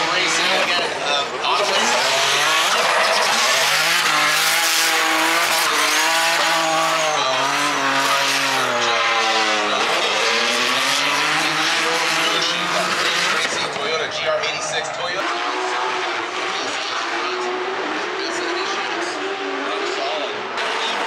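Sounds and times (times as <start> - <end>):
car engine at high revs: 0.0 - 21.0
tyres skidding and squealing: 0.0 - 21.0.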